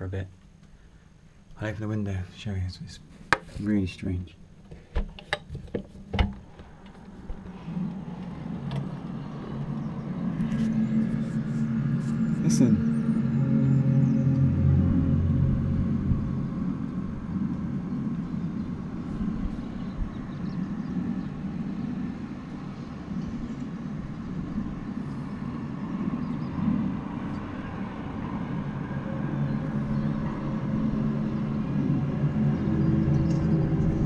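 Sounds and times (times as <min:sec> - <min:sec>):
low rumbling drone with hum: 0:05.6 - 0:34.0.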